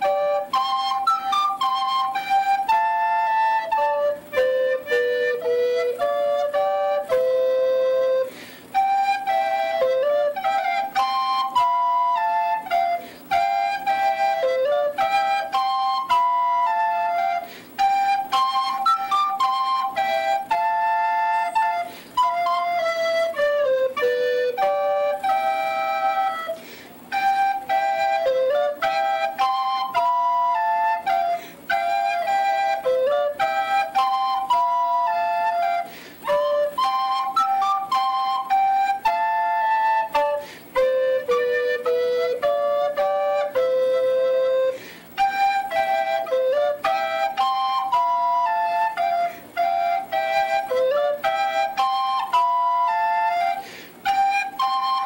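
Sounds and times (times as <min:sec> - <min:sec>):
flute-like melody: 0:00.0 - 0:55.0.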